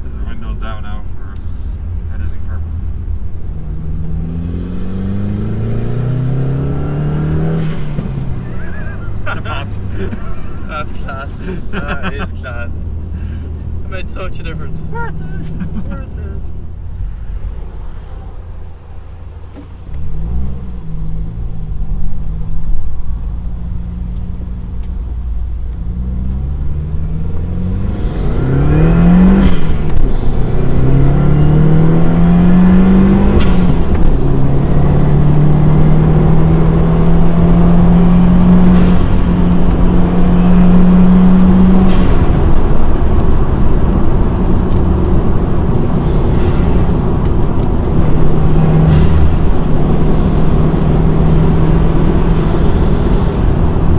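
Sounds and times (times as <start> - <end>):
car engine accelerating through gears: 1.4 - 12.0, 16.4 - 53.9.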